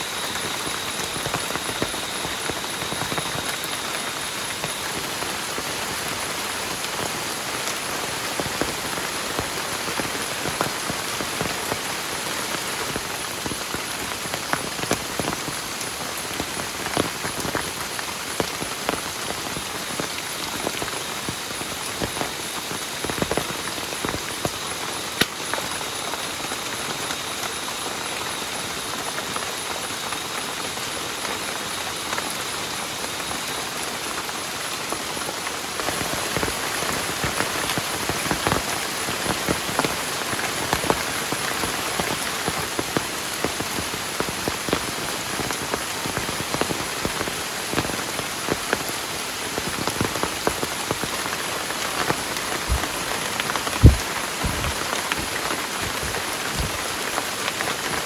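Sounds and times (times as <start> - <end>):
heavy rain: 0.0 - 58.0
raindrops striking close by: 0.0 - 58.0.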